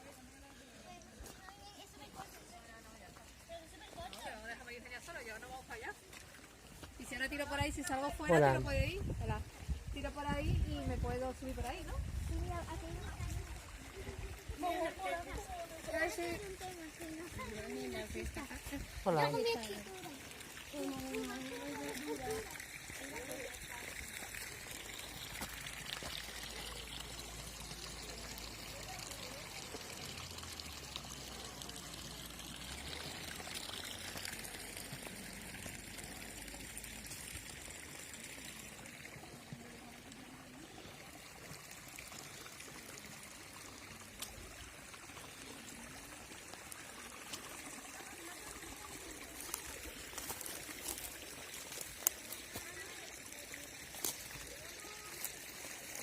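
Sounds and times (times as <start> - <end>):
running water pouring and trickling: 0.0 - 56.0.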